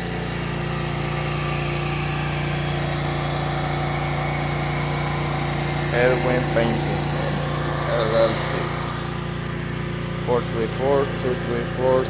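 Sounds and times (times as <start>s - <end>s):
small engine humming: 0.0s - 12.0s.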